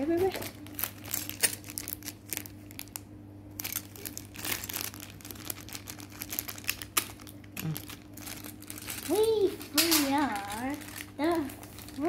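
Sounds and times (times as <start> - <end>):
packaging wrapper crackling: 0.0 - 12.0.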